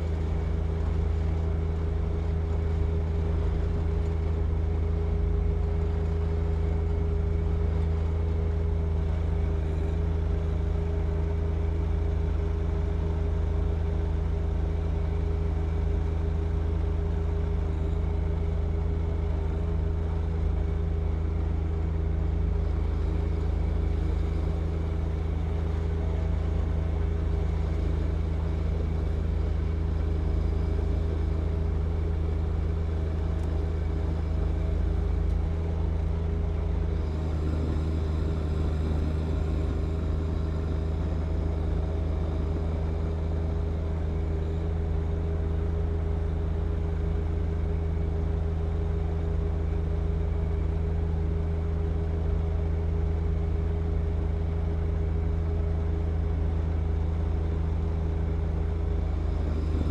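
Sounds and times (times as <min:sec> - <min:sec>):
snow-clearing machine engine droning: 0:00.0 - 0:59.9.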